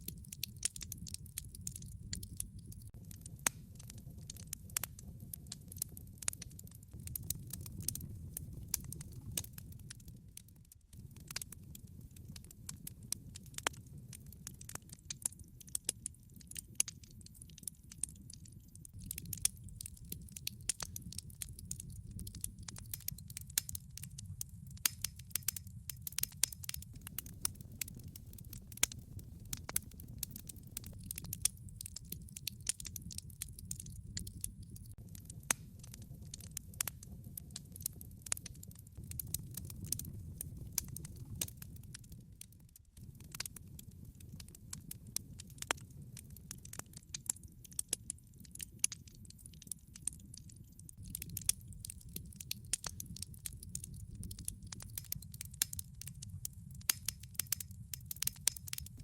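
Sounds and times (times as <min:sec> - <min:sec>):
log fire crackling and popping: 0:00.0 - 0:59.0.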